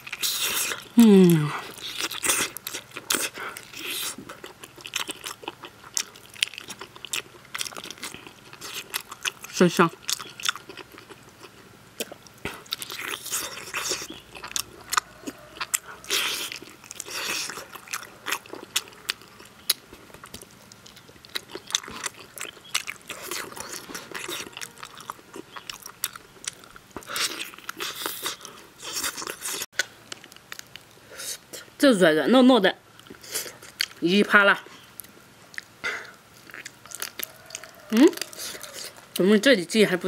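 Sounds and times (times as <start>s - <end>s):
person chewing meat: 0.0s - 31.6s, 32.9s - 34.0s, 34.7s - 39.2s.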